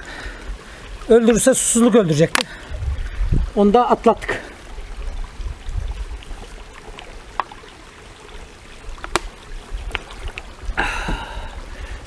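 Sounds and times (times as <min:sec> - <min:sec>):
creek trickling over rocks: 0:00.0 - 0:12.0.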